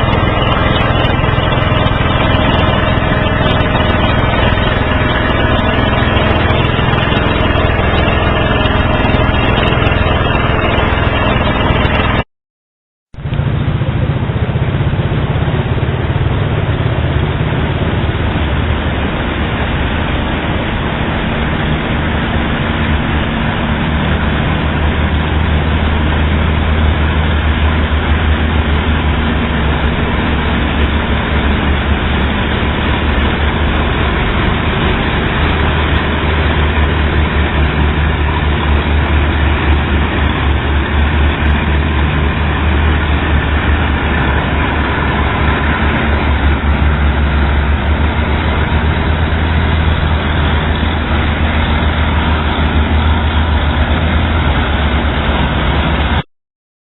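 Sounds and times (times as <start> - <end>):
boat motor droning: 0.0 - 12.2, 13.2 - 56.2.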